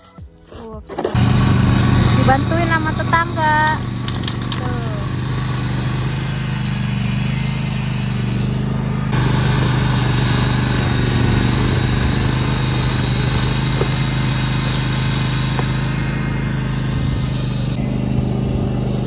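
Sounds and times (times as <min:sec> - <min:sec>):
tractor engine running: 0:00.6 - 0:19.0
snowblower throwing snow: 0:01.1 - 0:19.0.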